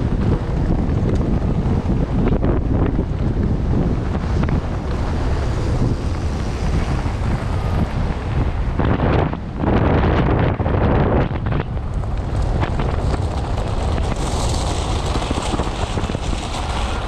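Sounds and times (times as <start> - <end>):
tyres rushing over gravel: 0.0 - 9.2, 11.1 - 17.0
tyre noise on dirt: 0.0 - 17.0
wind buffeting microphone: 0.0 - 17.0.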